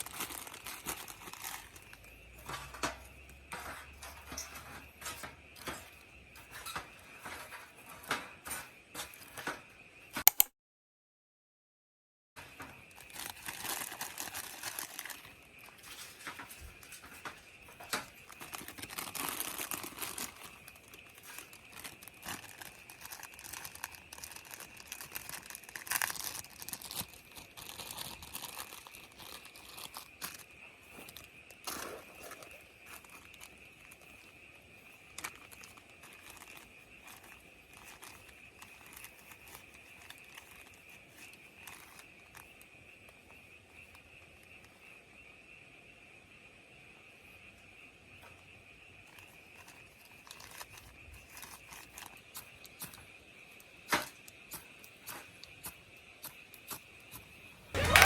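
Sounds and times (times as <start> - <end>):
rustling and crinkling handling: 0.0 - 10.3, 12.4 - 44.8, 49.0 - 58.0.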